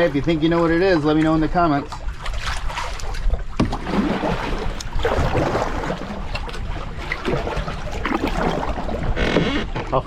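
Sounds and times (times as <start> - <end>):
river water washing: 0.0 - 9.3.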